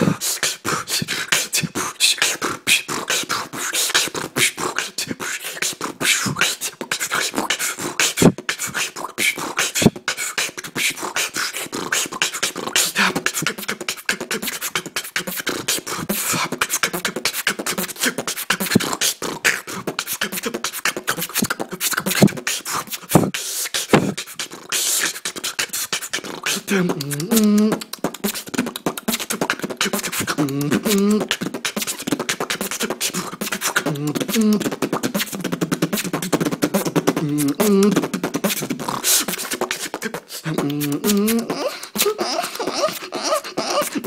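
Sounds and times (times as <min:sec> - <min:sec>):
person beatboxing: 0:00.0 - 0:44.0.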